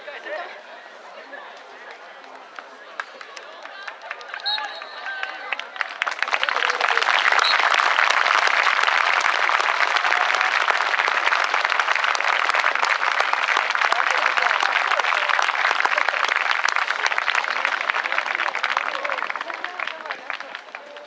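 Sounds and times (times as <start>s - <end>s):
spectators applauding: 3.0s - 21.0s.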